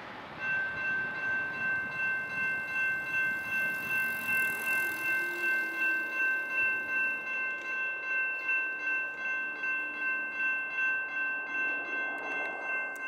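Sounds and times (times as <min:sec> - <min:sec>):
crossing warning bell ringing: 0:00.3 - 0:13.0.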